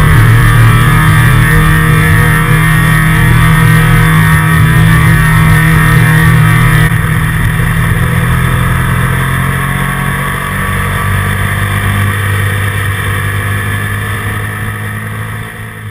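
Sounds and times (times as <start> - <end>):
motorcycle engine drone: 0.0 - 15.9.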